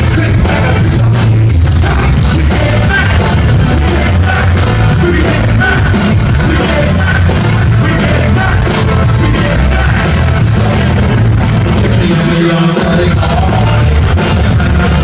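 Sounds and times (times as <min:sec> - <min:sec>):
live band playing loud music: 0:00.0 - 0:15.0.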